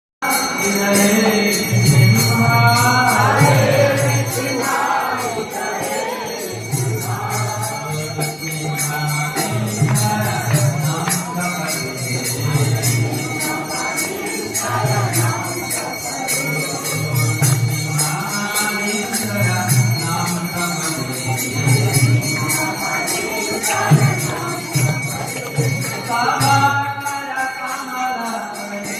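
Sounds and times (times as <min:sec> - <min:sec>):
group devotional chanting: 0:00.2 - 0:28.9
hand cymbals jingling: 0:00.2 - 0:28.9.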